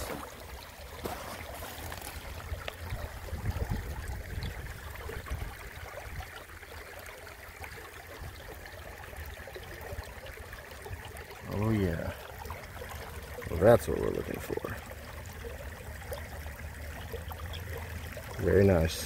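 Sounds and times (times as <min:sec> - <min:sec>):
creek water trickling over gravel: 0:00.0 - 0:19.0.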